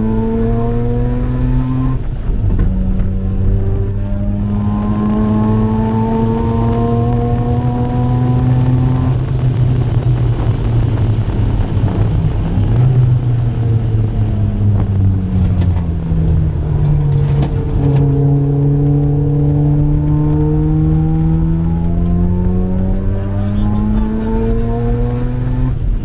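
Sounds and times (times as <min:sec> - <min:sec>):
exhaust crackles: 0:00.0 - 0:26.0
rotary engine revving: 0:00.0 - 0:26.0.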